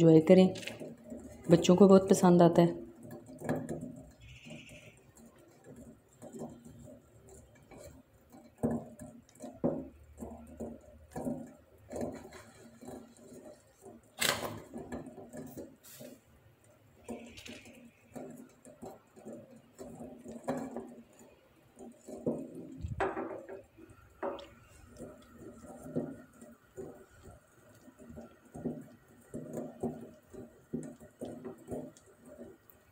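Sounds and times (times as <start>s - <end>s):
spatula scraping in pot: 0.6s - 32.9s.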